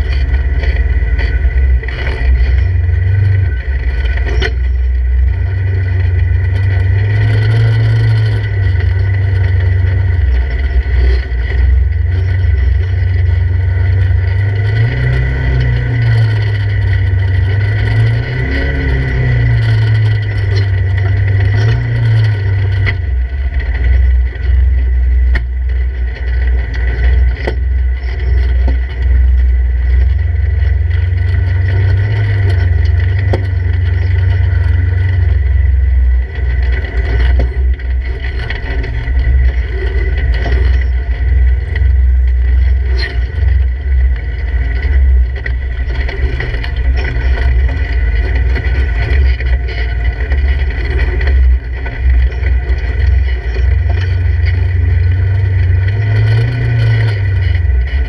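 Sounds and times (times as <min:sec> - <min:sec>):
engine revving: 0:00.0 - 0:58.0.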